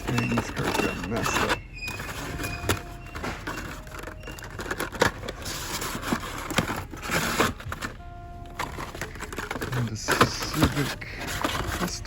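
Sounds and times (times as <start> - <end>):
cardboard rustling: 0.0 - 12.0
plastic packs clicking: 0.0 - 12.0.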